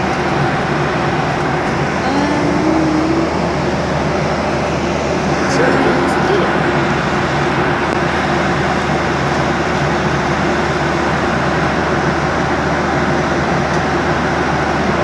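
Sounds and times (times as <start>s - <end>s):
engine and airflow rush in cabin: 0.0s - 15.0s.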